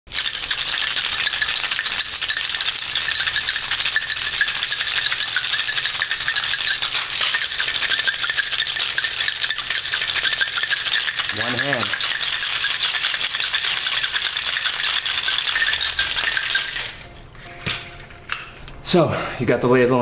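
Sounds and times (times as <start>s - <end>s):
ice rattling in cocktail shaker: 0.1s - 17.0s.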